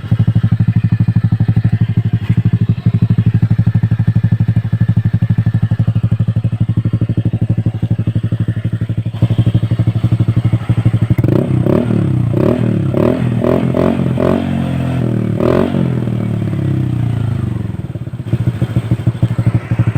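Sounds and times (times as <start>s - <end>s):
scooter engine idling and revving: 0.0s - 19.9s.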